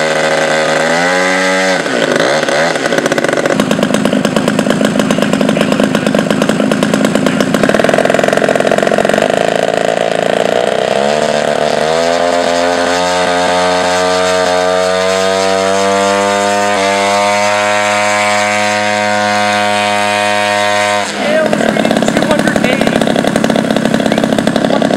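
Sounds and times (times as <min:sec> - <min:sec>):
aircraft engine throttling down: 0:00.0 - 0:24.9.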